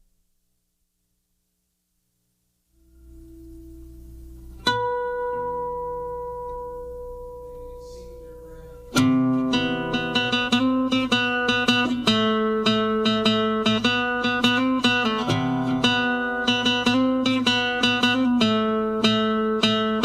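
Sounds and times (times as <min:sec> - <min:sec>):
guitar plucked notes: 0:02.8 - 0:20.0
held musical tone: 0:02.8 - 0:20.0.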